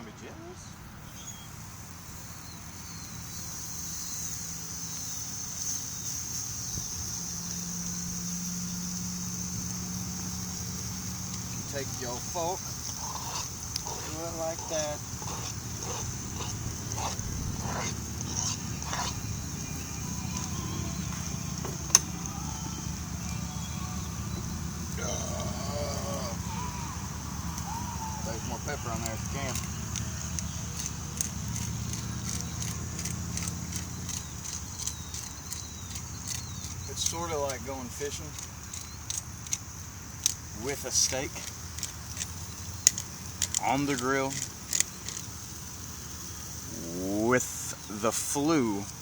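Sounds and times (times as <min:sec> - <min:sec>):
insects buzzing: 0:00.0 - 0:49.0
steak sizzling on a grill: 0:00.8 - 0:49.0.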